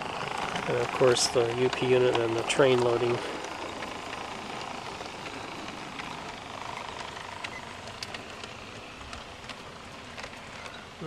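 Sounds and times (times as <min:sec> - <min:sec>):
model train rolling on track: 0:00.0 - 0:11.0.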